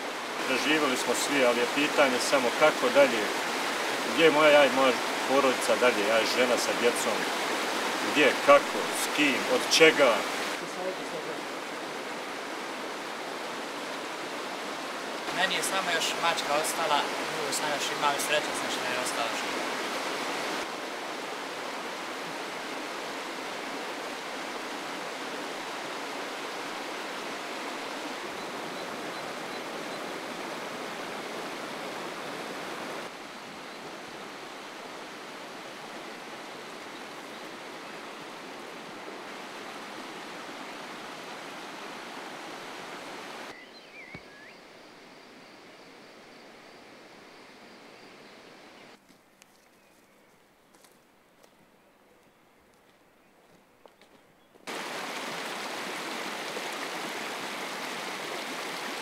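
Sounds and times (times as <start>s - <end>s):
flowing water: 0.0s - 44.3s, 54.7s - 59.0s.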